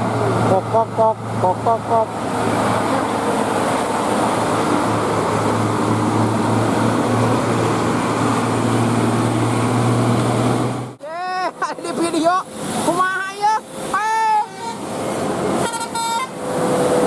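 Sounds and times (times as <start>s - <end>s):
bus diesel engine running: 0.0s - 17.0s
road noise rushing: 0.0s - 17.0s.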